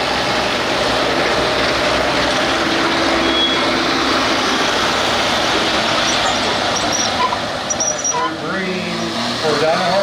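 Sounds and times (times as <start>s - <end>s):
tractor engine running loud: 0.0s - 10.0s.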